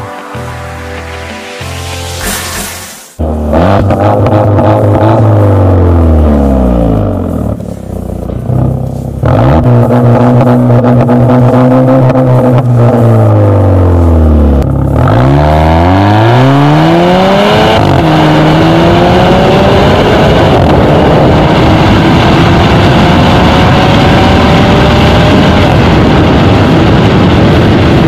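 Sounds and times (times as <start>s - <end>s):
wind and road noise: 0.9s - 28.0s
car exhaust accelerating: 1.8s - 28.0s.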